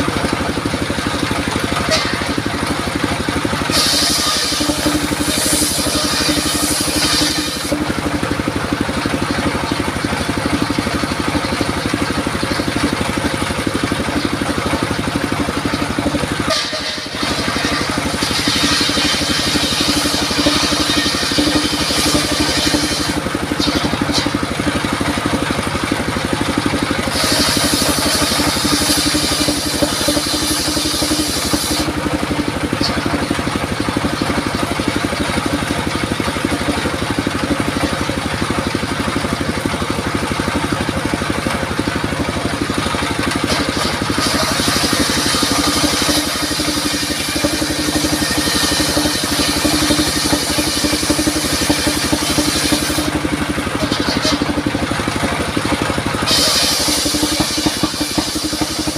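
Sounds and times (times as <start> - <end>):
circular saw engine running: 0.0 - 58.9
saw blade cutting wood: 0.0 - 58.9.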